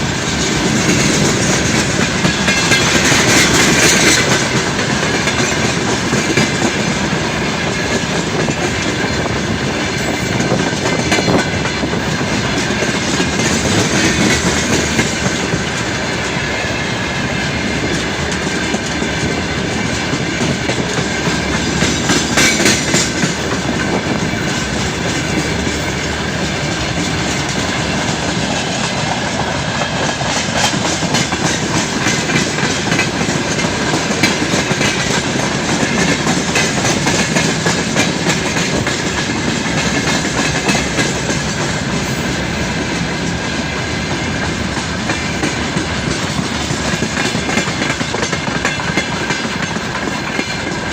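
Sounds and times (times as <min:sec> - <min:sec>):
freight train wheels clacking: 0:00.0 - 0:50.9.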